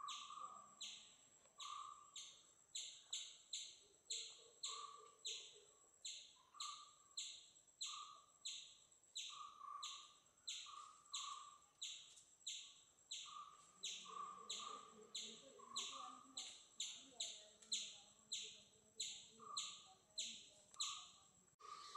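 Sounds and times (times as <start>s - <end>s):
regular chirping: 0.0s - 21.9s.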